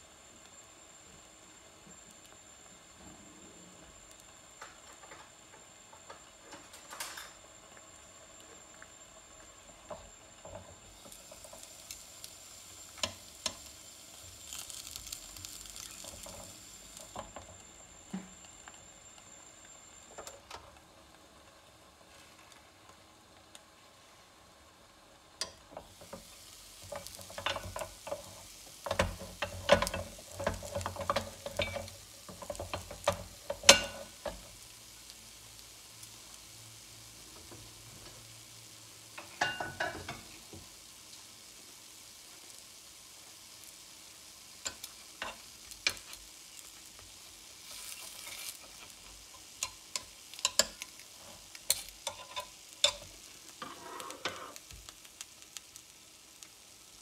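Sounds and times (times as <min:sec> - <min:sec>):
food sizzling in a cooker: 0:00.0 - 0:57.0.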